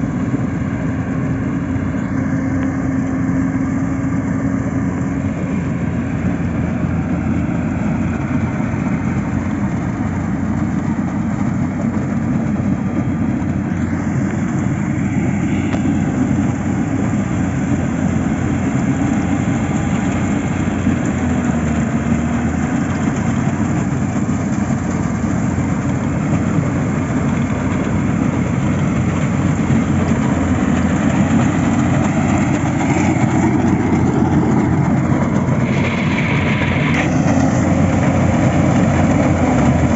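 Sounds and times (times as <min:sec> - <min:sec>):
engine rumbling steadily: 0:00.0 - 0:39.9.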